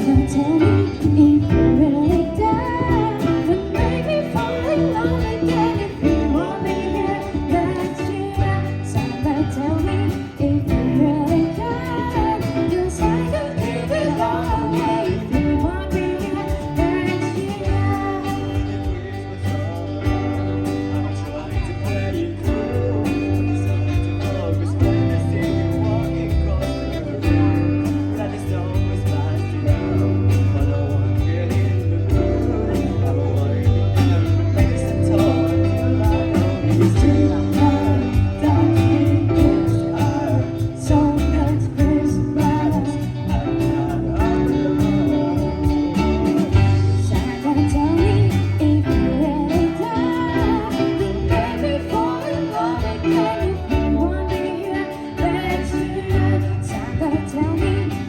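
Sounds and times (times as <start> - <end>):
bass: 0.0 - 58.0
drums: 0.0 - 58.0
guitar: 0.0 - 58.0
person singing lead vocals: 0.0 - 58.0.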